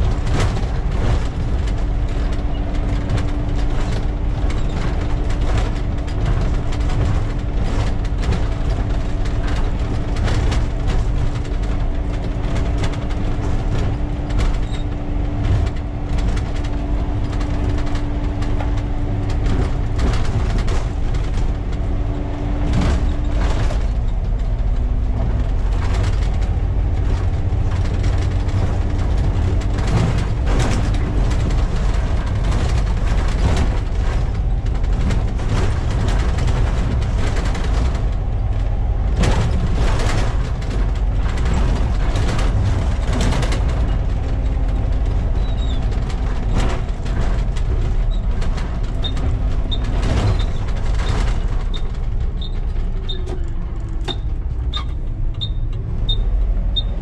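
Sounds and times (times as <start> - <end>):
diesel bus engine running: 0.0 - 57.0
rattles and knocks: 0.0 - 57.0.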